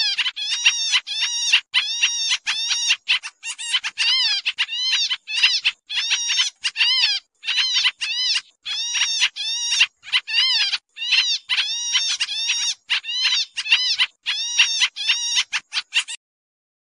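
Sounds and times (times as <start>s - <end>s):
bird calling nasal notes: 0.0s - 16.2s.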